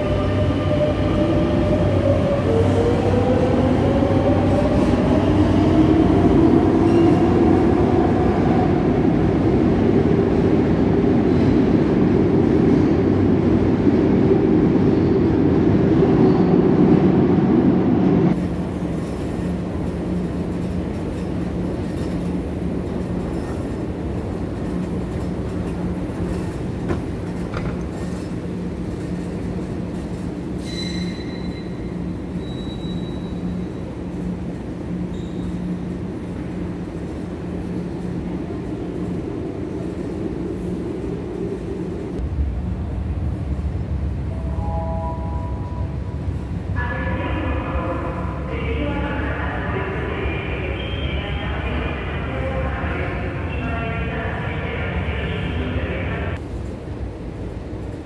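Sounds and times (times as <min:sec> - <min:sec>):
wheels rumbling on rail: 0:00.0 - 0:50.5.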